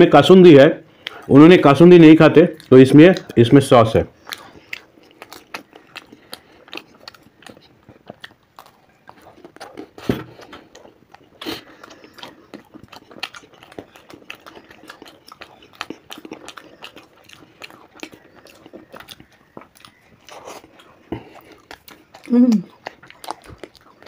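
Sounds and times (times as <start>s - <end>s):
chewing and biting: 1.0s - 24.0s
mouth clicks and crackles: 1.0s - 24.0s.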